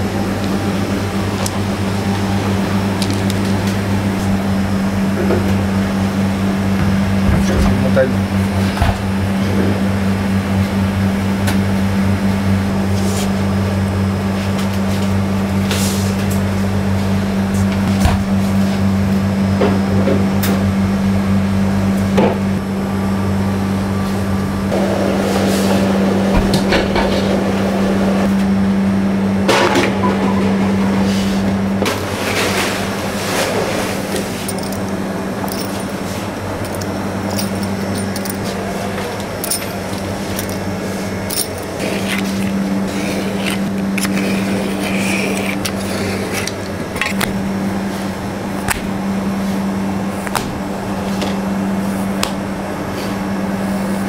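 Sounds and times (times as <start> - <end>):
mechanical hum of equipment: 0.0 - 54.0.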